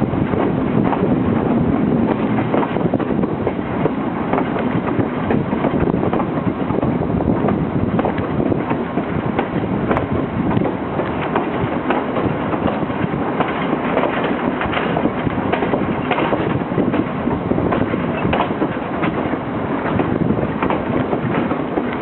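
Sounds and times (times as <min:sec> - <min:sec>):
train rumbling on rails: 0:00.0 - 0:22.0
train wheels clicking and clacking: 0:00.0 - 0:22.0.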